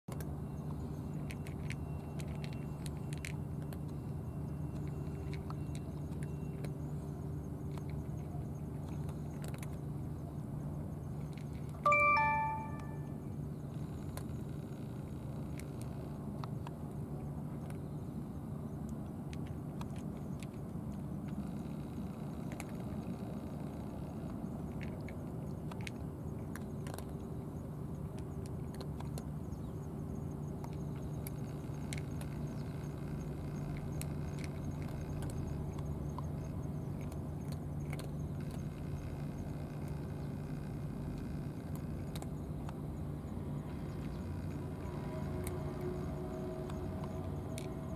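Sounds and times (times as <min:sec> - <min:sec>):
cat eating from plastic dish: 0:00.1 - 0:11.8, 0:18.5 - 0:40.4, 0:41.5 - 0:47.9.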